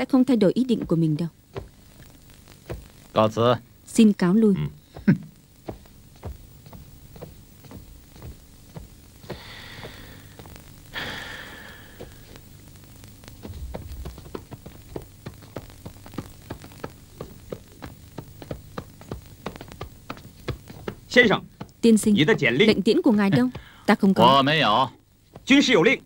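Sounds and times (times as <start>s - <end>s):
steady low hum: 0.0s - 26.0s
hooves and footsteps on earth: 0.6s - 3.2s, 4.8s - 10.8s, 11.9s - 26.0s.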